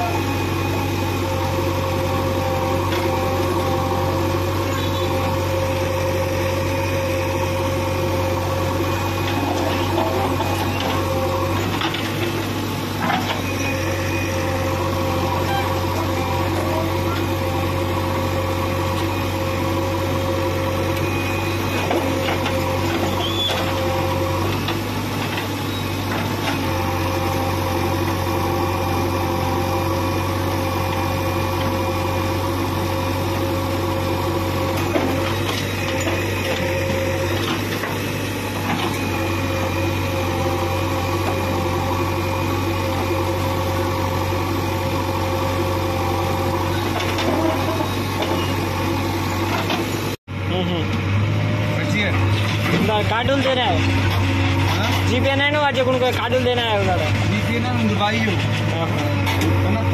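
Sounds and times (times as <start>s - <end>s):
backhoe digging soil: 0.0s - 50.1s
diesel engine under hydraulic load: 0.0s - 59.9s.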